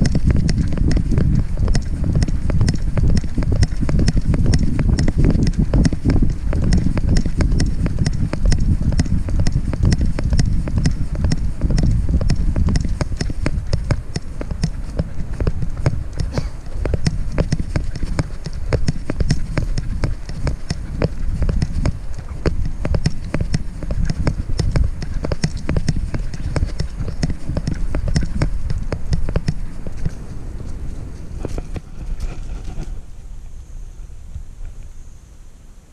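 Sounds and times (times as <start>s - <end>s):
microphone handling rumble: 0.0s - 35.0s.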